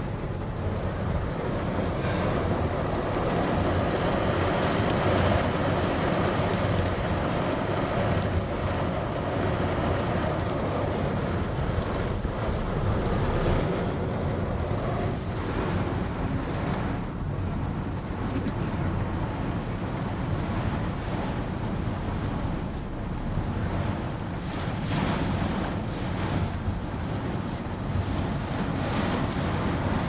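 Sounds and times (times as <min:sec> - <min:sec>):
wind and rain rushing: 0:00.0 - 0:30.0
wind rumbling on microphone: 0:00.0 - 0:30.0.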